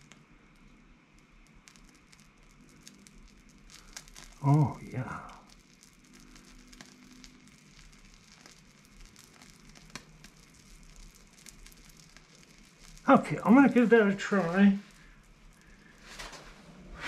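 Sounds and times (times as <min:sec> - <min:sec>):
small pops: 0:00.0 - 0:16.4
wax sizzling and crackling: 0:00.0 - 0:17.0.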